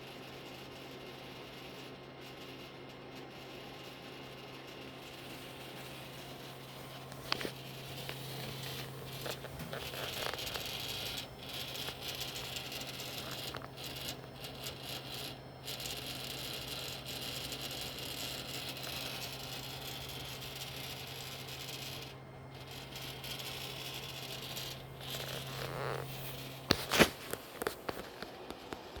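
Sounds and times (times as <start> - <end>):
water chiller humming: 4.6 - 29.0.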